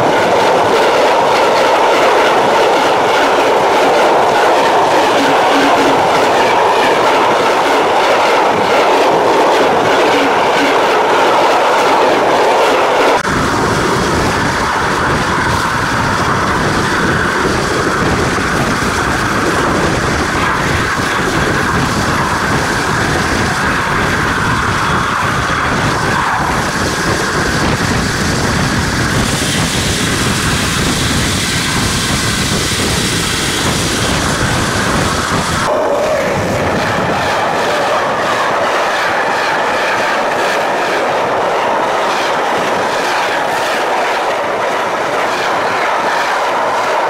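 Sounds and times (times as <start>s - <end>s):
train wheels rolling on rails: 0.0s - 47.0s.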